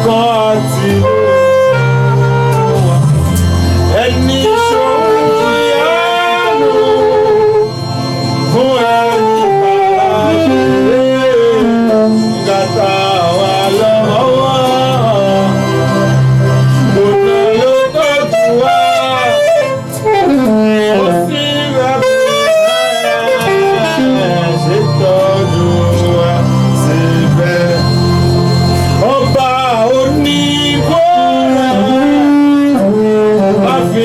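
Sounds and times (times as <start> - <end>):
gliding melodic lead line: 0.0 - 34.0
sustained bass notes: 0.0 - 34.0.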